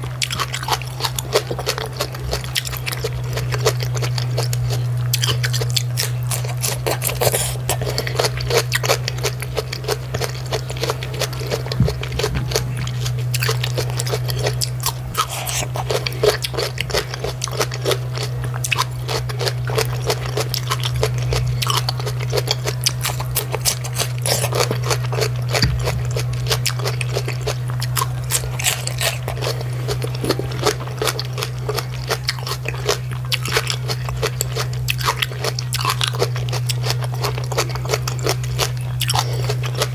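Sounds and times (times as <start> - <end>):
crunchy chewing: 0.0 - 39.9
steady low hum: 0.0 - 39.9.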